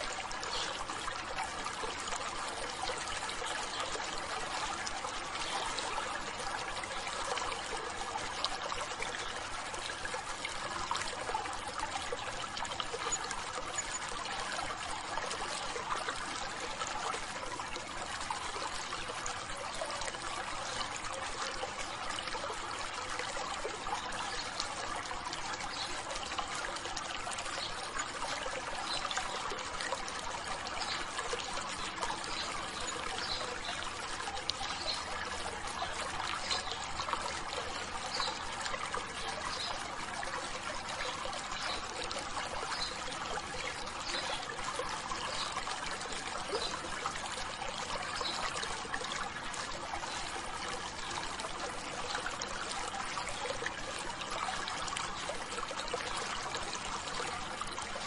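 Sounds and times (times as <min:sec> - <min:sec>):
stream water splashing over rocks: 0:00.0 - 0:58.0.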